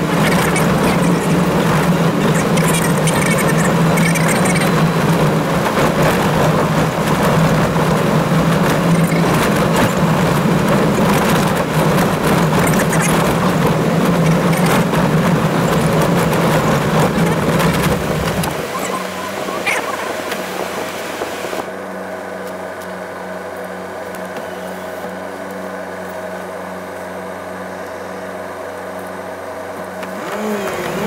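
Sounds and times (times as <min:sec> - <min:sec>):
vehicle driving on gravel: 0:00.0 - 0:31.0.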